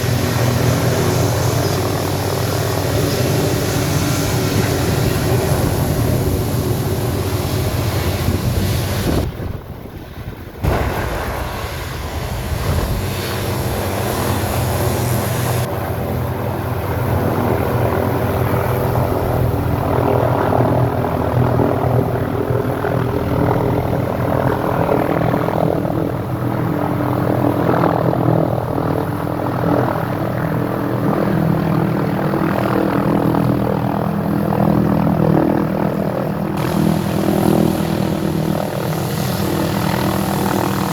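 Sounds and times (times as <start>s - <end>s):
helicopter engine and rotor hum: 0.0s - 40.9s.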